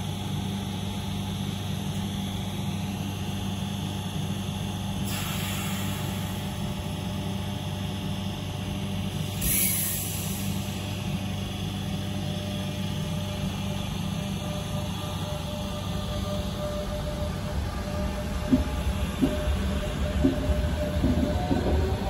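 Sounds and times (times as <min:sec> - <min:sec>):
electric train motors humming: 0:00.0 - 0:22.0.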